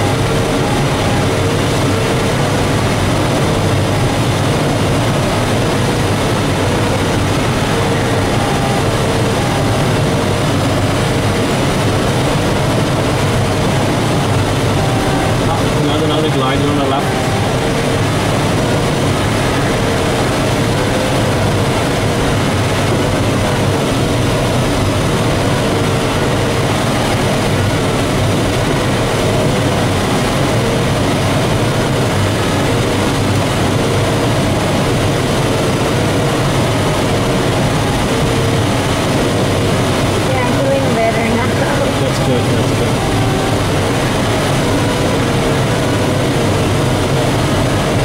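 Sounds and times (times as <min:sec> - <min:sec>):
air rushing over canopy: 0:00.0 - 0:48.0.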